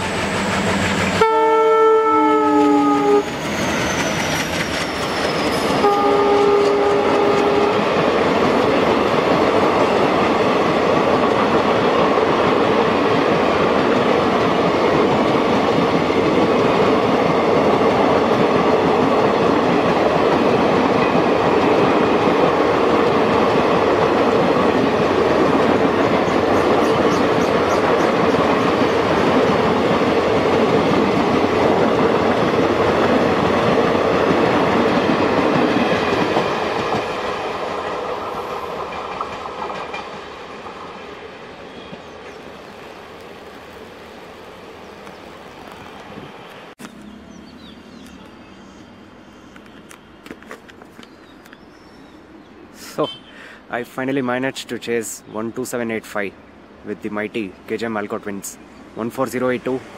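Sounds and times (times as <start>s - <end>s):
train wheels running on rails: 0.0s - 51.7s.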